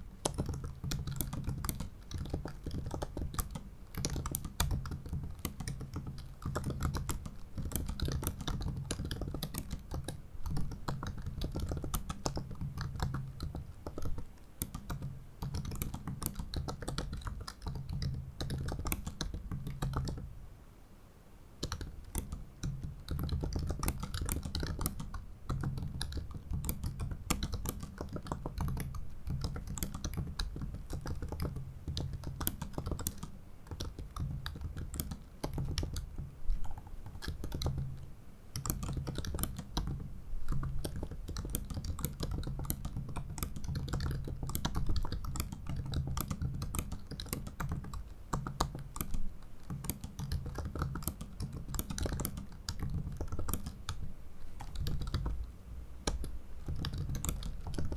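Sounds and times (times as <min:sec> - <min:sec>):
laptop keyboard typing: 0:00.0 - 0:20.3, 0:21.6 - 0:57.9.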